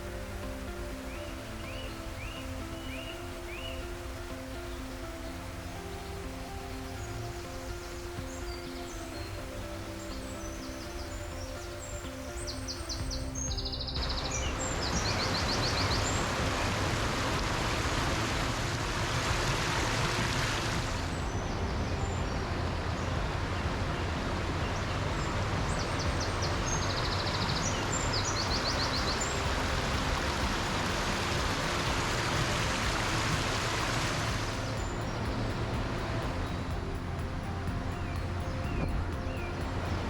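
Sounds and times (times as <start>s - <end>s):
small bird trilling song: 0.0s - 4.9s, 5.9s - 17.1s, 19.6s - 39.9s
waterfall rushing: 0.0s - 40.0s.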